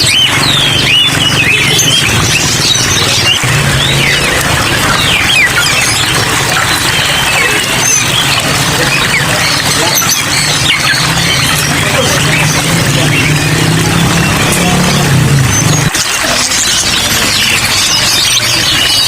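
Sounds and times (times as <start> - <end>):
songbirds chirping and twittering: 0.0 - 19.0.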